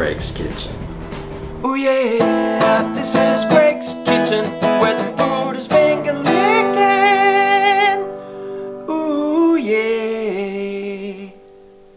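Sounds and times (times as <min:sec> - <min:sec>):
strummed acoustic guitar: 0:00.0 - 0:11.6
person singing long notes: 0:00.7 - 0:11.5.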